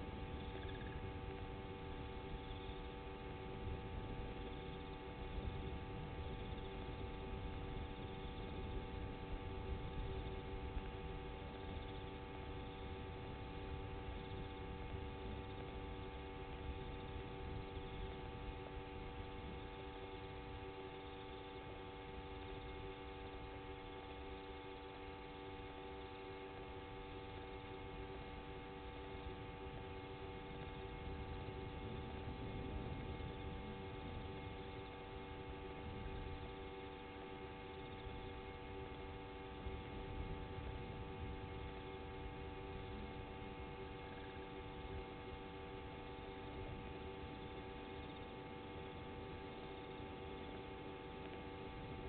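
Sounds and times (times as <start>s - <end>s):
steady hum of fixed tones: 0.0s - 52.0s.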